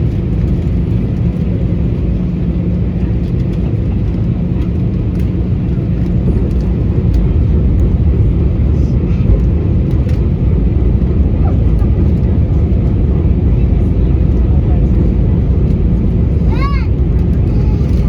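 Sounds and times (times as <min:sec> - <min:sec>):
constant hum: 0:00.0 - 0:18.0
jet engines rumbling: 0:00.0 - 0:18.0.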